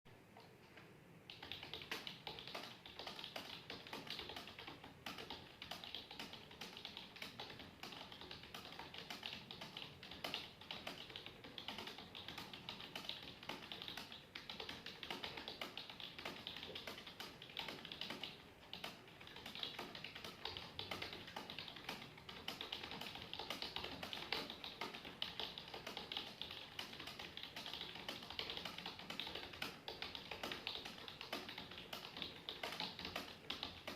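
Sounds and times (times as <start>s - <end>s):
rapid typing on computer keyboard: 1.3s - 33.9s.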